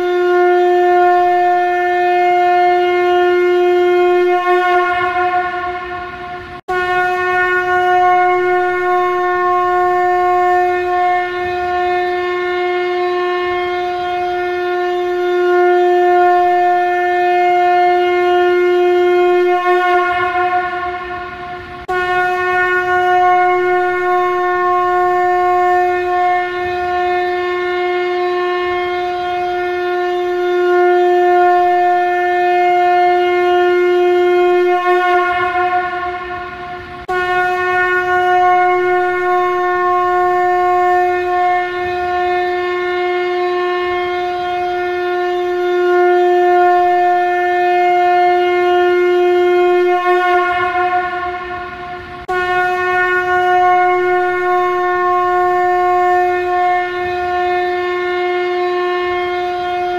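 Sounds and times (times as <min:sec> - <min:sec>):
conch shell trumpet blasts: 0:00.0 - 0:59.9.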